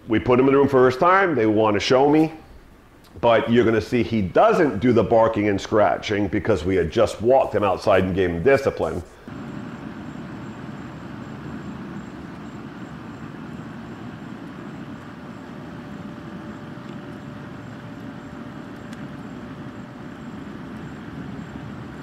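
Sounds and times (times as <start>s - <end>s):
low outdoor background rumble: 0.0s - 22.0s.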